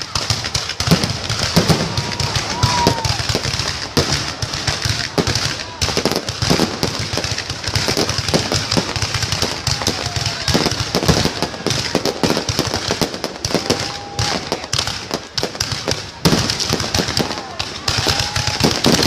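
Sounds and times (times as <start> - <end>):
fireworks crackling and banging: 0.0 - 19.0
loud firework bang: 0.0 - 19.0.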